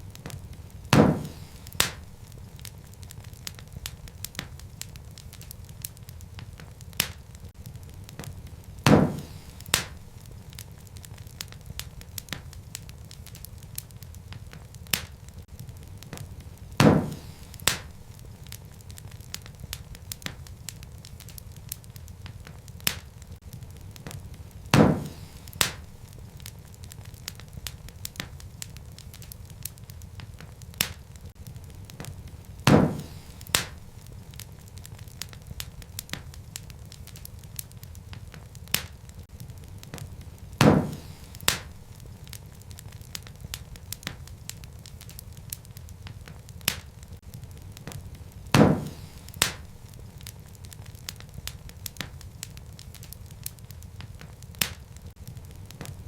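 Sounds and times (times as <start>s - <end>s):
fire crackling: 0.0s - 56.0s
loud fire pops: 0.0s - 56.0s
low rumble of flames: 0.0s - 56.0s.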